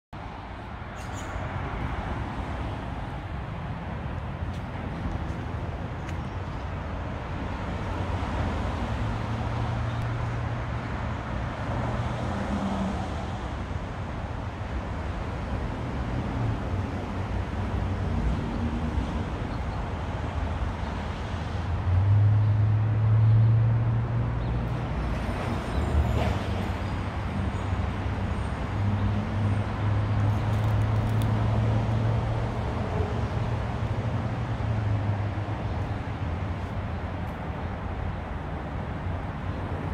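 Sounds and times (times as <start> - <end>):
road traffic: 0.1 - 39.9.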